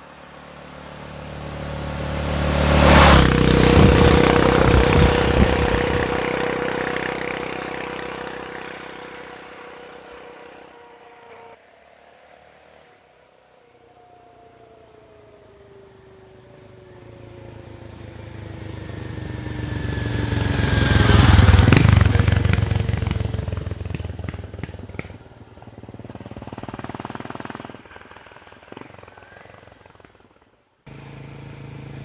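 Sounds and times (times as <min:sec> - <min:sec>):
motorcycle engine passing by: 0:00.0 - 0:11.6, 0:16.6 - 0:32.0.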